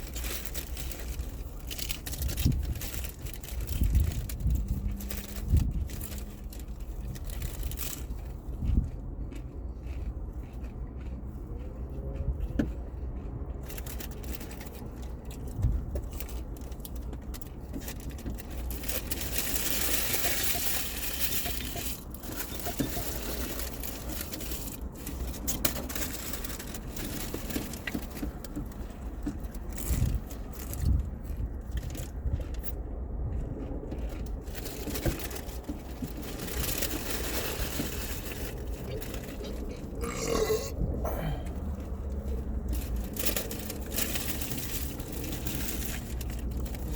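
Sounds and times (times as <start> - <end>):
wrappers crackling and tearing: 0.0 - 8.4, 13.6 - 32.7, 34.0 - 46.9
chewing and crunching food: 0.0 - 46.9.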